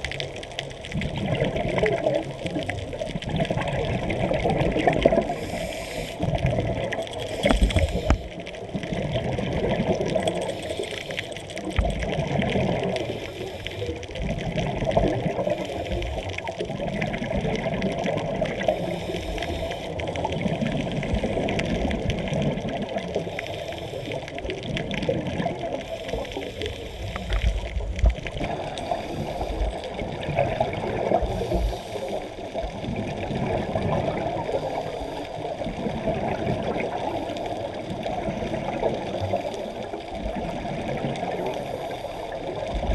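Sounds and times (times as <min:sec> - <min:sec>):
water moving past camera: 0:00.0 - 0:42.9.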